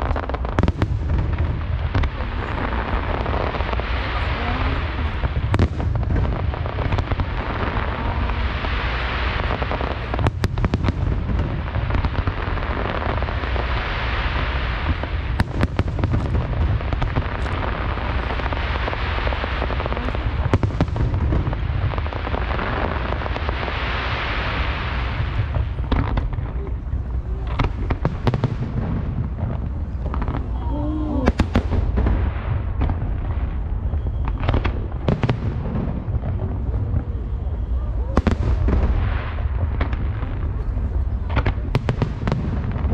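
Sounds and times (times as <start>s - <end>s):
fireworks rumbling: 0.0s - 42.9s
fireworks sharp bangs: 0.0s - 42.9s.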